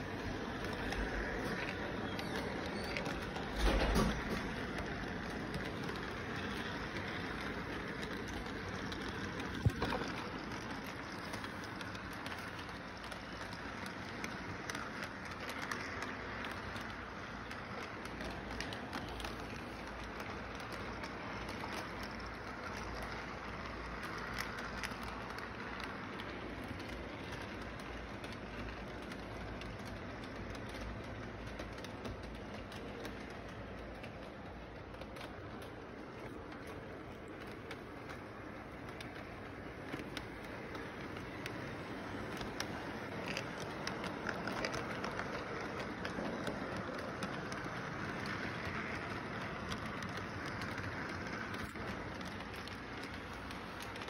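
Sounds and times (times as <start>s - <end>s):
faint clicks: 0.0s - 54.0s
model train wheels on rails: 0.0s - 54.0s.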